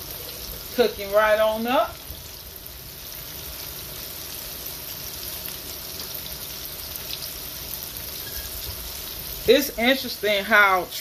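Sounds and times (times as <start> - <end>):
deep-frying sizzle: 0.0 - 11.0.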